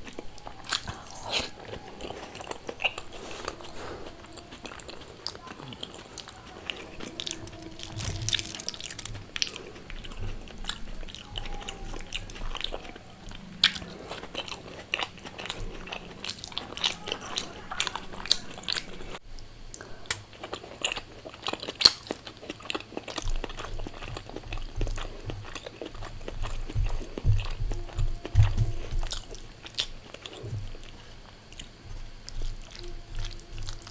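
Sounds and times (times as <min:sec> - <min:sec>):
person chewing crunchy food: 0:00.0 - 0:33.9.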